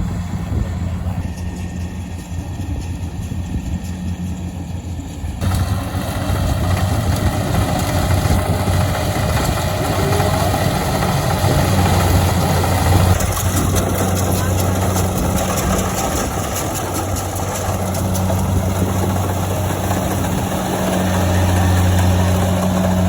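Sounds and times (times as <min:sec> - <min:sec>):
engine running with low hum: 0:00.0 - 0:23.0.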